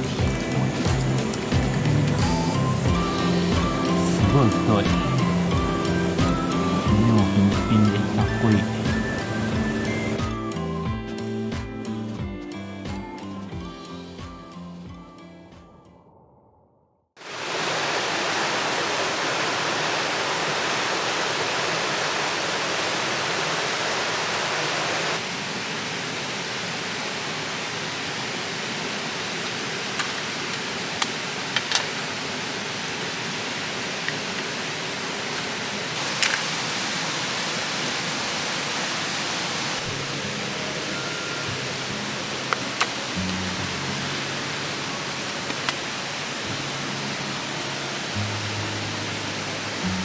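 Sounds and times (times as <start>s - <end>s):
stream rushing over rocks: 0.0s - 10.4s, 17.2s - 50.0s.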